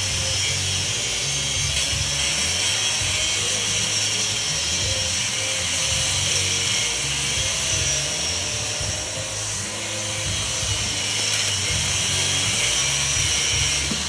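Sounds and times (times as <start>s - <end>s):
power tool grinding metal: 0.0s - 14.0s.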